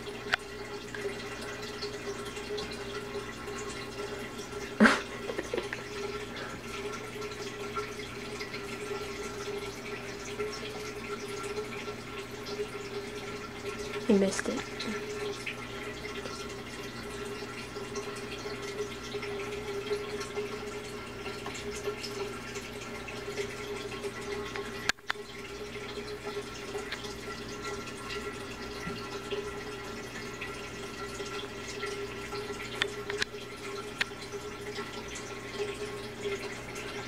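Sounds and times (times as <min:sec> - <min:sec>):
aquarium water bubbling: 0:00.0 - 0:37.0
low equipment hum: 0:00.0 - 0:37.0.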